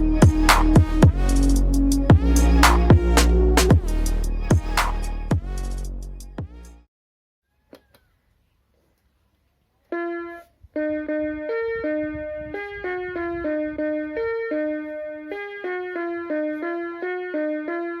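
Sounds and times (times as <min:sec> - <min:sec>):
electronic keyboard melody: 0:00.0 - 0:06.9, 0:10.0 - 0:18.0.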